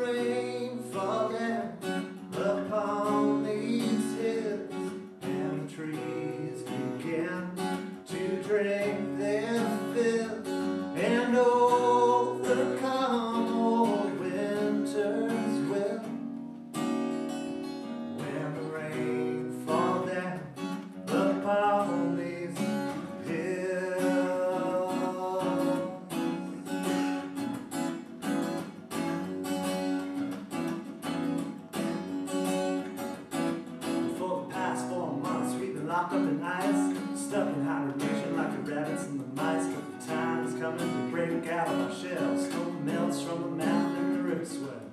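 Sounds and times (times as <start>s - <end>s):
man singing: 0.0s - 16.4s, 18.2s - 27.1s, 34.0s - 44.9s
strummed acoustic guitar: 0.0s - 44.9s.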